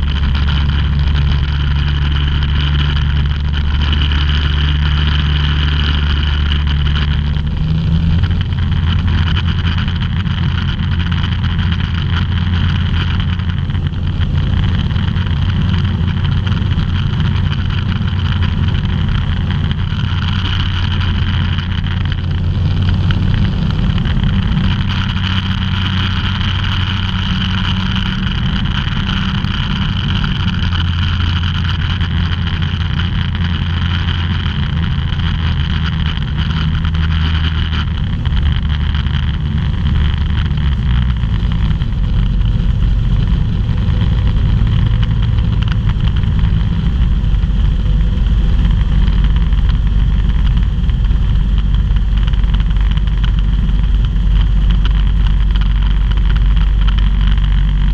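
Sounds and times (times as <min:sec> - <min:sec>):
aircraft engine and propeller: 0:00.0 - 0:57.9
rush of airflow: 0:00.0 - 0:57.9.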